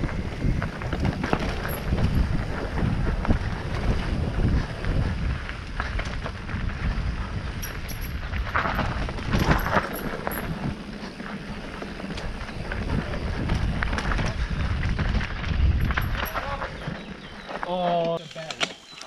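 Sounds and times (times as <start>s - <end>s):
wind on microphone: 0.0s - 17.4s
bike rattling: 0.0s - 19.0s
bike rolling over rough trail: 0.0s - 19.0s.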